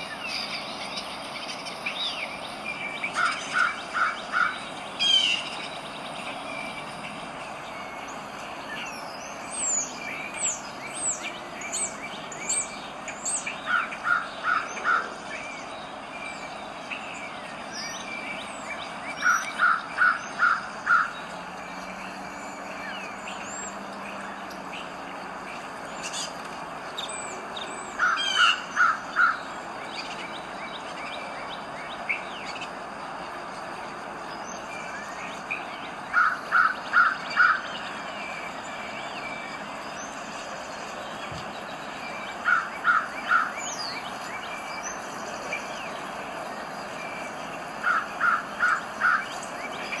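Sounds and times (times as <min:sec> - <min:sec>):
bird calling loudly: 0:00.0 - 0:25.2, 0:25.9 - 0:33.0, 0:34.4 - 0:50.0
small birds chirping faintly: 0:00.0 - 0:50.0.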